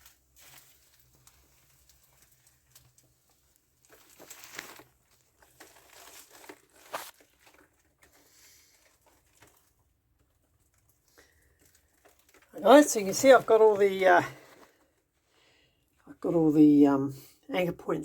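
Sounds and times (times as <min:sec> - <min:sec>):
rustling handling noise: 0:00.0 - 0:16.0.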